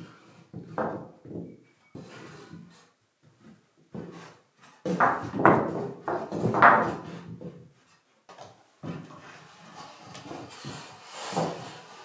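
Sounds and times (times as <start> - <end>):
wood scraping and creaking: 0.0 - 8.0, 8.8 - 12.0.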